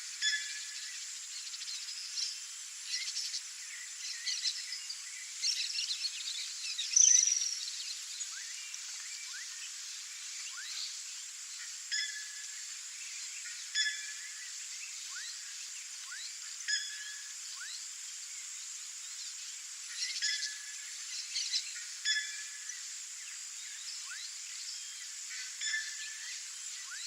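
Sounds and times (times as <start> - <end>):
steady high hiss: 0.0 - 27.0.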